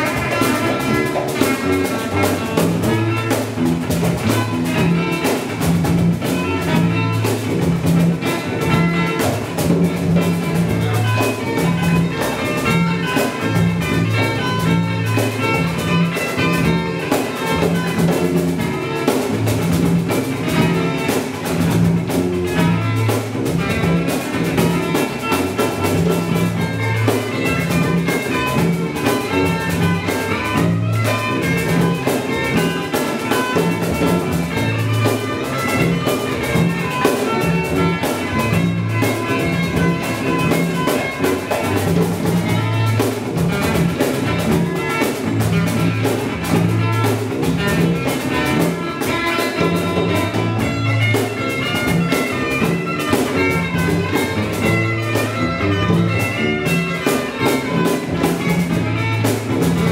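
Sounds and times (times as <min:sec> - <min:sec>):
cajon beat: 0:00.0 - 0:59.9
conga drum beat: 0:00.0 - 0:59.9.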